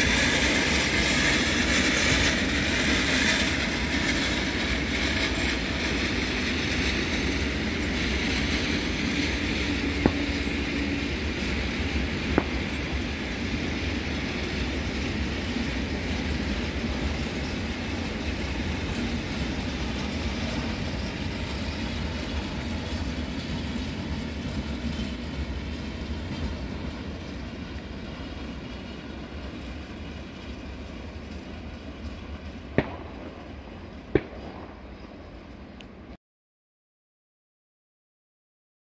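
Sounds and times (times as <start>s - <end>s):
freight train rumbling and rattling: 0.0s - 36.2s.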